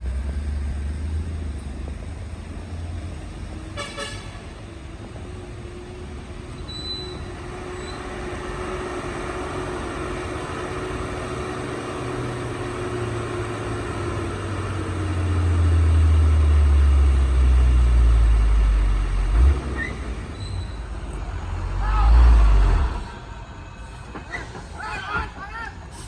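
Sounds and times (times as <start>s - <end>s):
truck diesel engine labouring: 0.0s - 26.0s.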